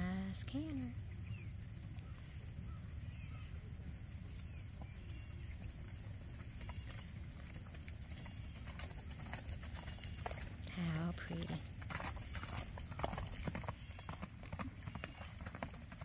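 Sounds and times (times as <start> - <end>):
horse hoofbeats on gravel: 0.0 - 16.0.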